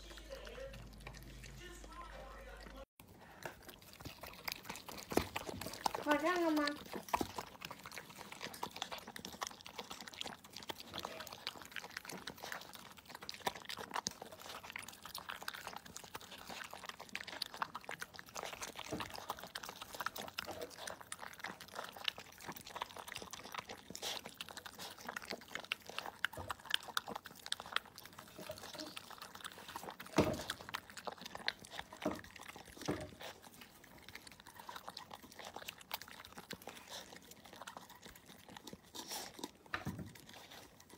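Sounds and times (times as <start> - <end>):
puppy crunching dry kibble: 0.0 - 40.9.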